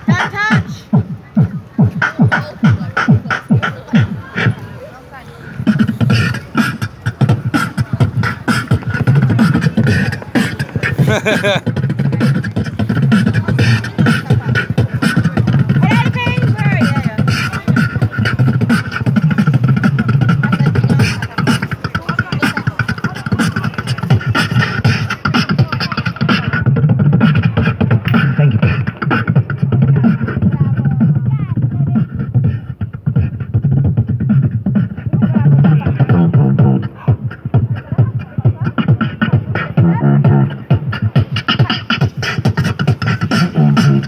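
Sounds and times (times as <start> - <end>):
deep bass beats: 0.0 - 4.6, 5.6 - 44.0
beatboxing through microphone: 0.0 - 44.0.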